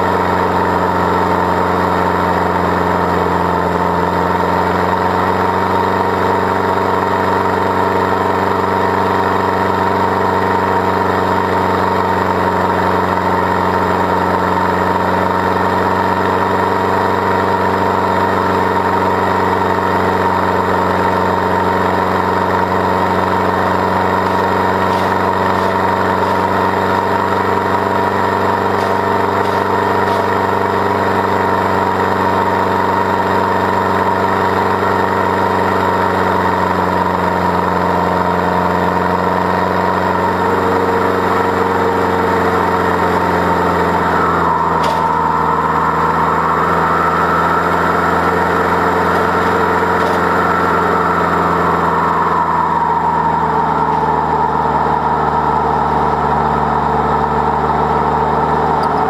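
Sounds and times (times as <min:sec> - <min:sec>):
engine running under load: 0:00.0 - 0:59.0.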